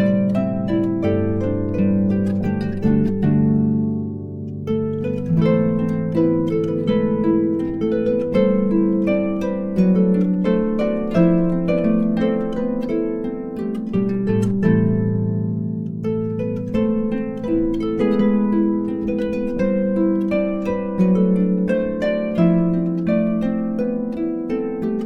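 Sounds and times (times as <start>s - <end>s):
harp music: 0.0s - 25.0s.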